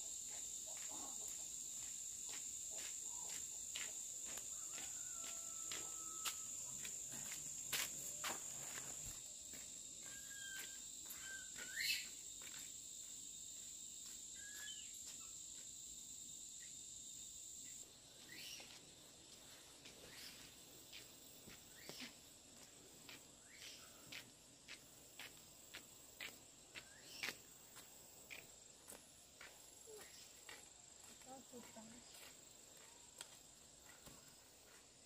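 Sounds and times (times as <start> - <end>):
high insect trill: 0.0 - 35.0.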